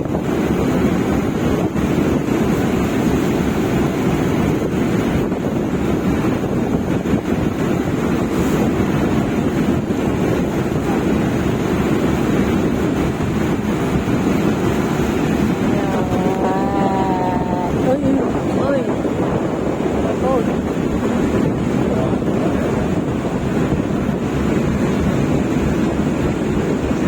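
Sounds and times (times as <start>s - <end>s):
ocean waves: 0.0s - 27.0s
wind buffeting microphone: 0.0s - 27.0s.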